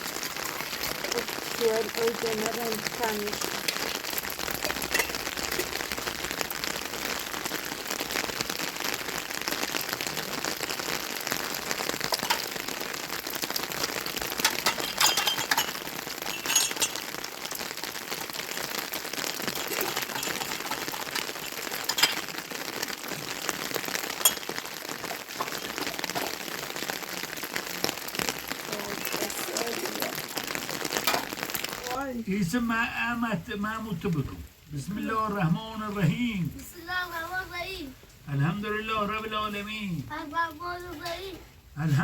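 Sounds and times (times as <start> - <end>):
steady rain pattering: 0.0 - 42.0.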